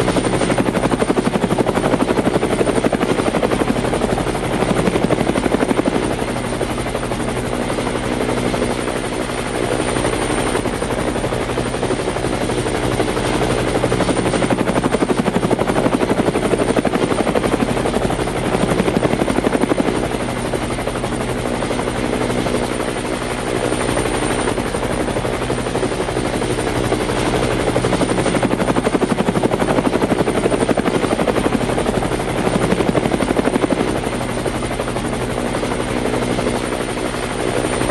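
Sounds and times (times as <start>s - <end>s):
helicopter running: 0.0s - 37.9s.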